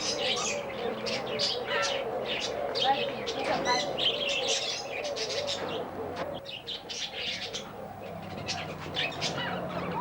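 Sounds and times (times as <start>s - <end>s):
small birds chirping and twittering: 0.0s - 10.0s.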